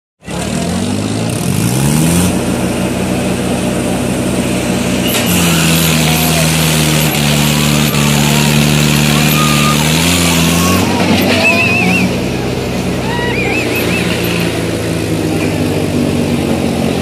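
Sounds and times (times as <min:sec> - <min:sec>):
tractor diesel engine revving: 0:00.2 - 0:17.0.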